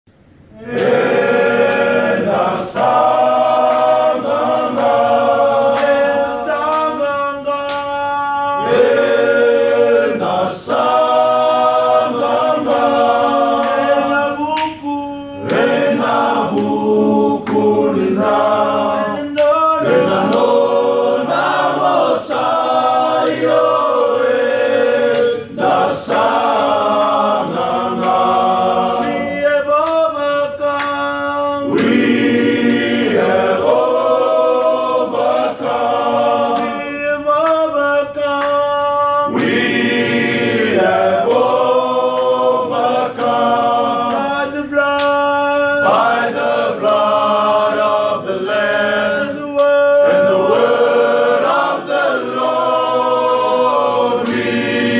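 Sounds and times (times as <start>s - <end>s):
men's choir singing a hymn: 0.5s - 54.9s.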